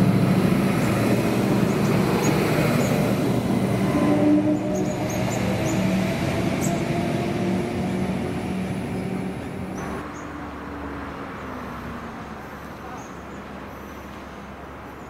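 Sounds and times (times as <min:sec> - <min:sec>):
diesel railcar engine hum: 0:00.0 - 0:15.0
rail noise: 0:00.0 - 0:15.0.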